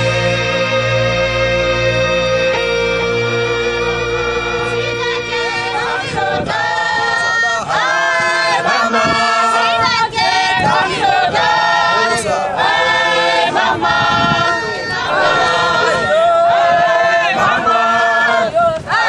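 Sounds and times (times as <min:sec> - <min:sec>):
choir singing with music: 0:00.0 - 0:19.0.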